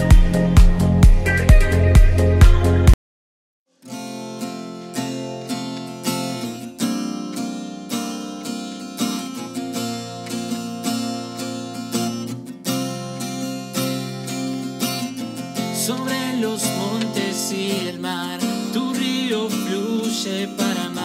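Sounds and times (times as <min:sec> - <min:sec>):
acoustic guitar strumming: 0:00.0 - 0:03.0, 0:03.8 - 0:21.0.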